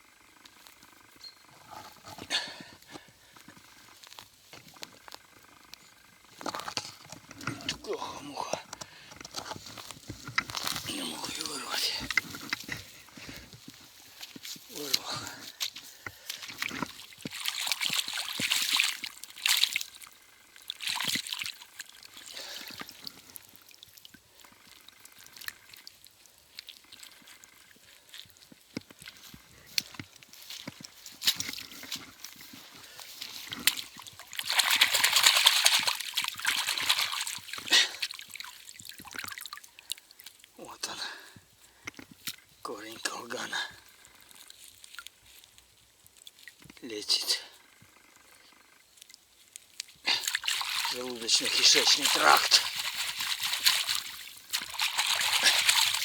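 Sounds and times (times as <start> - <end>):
rustling and scraping of grass and soil: 0.0 - 7.9, 8.8 - 40.5, 43.8 - 46.8, 47.5 - 56.0.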